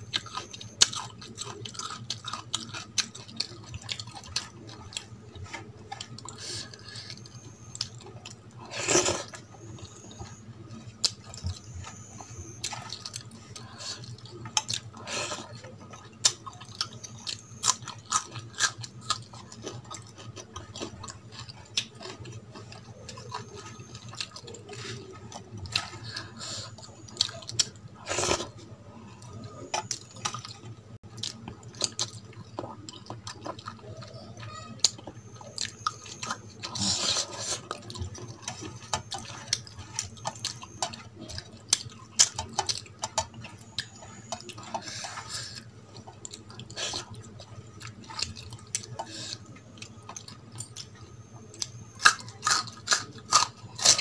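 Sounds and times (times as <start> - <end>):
chewing: 0.0 - 54.0.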